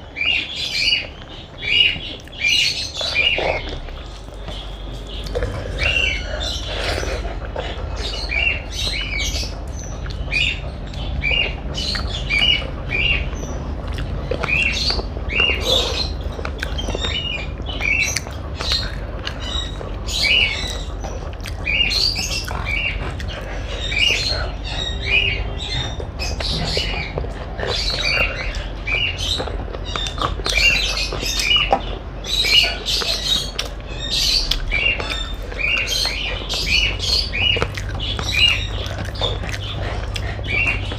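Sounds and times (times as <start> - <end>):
low steady hum: 0.0 - 40.9
chewing and mouth smacks: 1.1 - 40.9.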